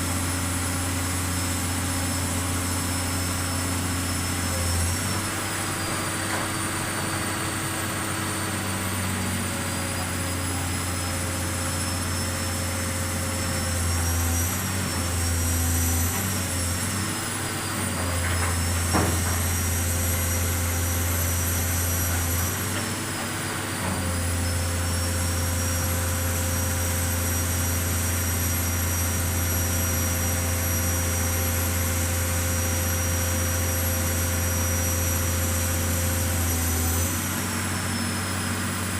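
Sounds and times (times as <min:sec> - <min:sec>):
pile driver engine drone: 0:00.0 - 0:38.9.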